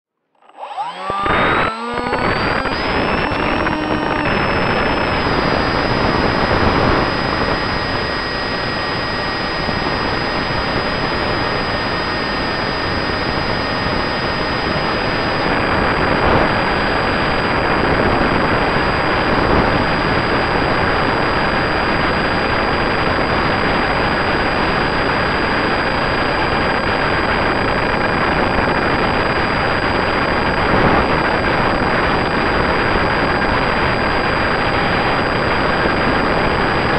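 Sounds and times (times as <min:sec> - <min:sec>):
electric motor and propeller whine: 0:00.3 - 0:36.9.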